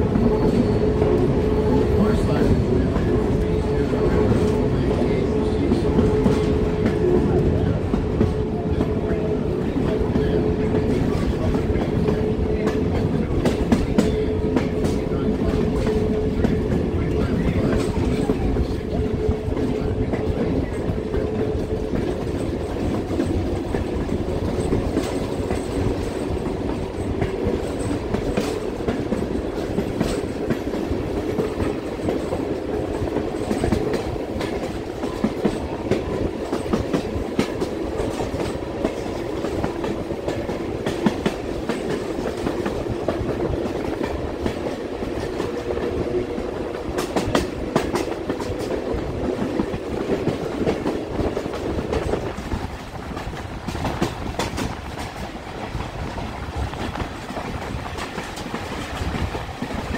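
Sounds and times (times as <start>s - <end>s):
railroad car rumbling: 0.0s - 59.9s
wheels clacking over rails: 5.3s - 59.9s.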